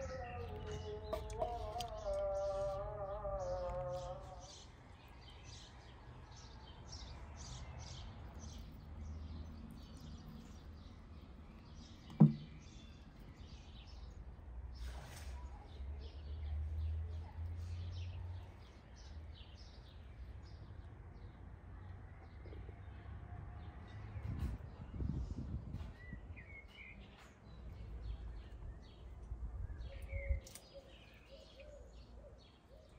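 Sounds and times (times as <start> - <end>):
small birds chirping: 0.0 - 23.0, 24.2 - 32.9.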